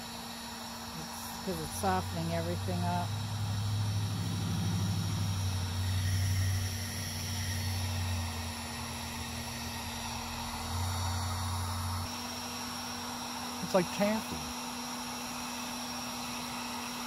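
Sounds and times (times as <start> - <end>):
heat gun blowing hiss: 0.0 - 17.0.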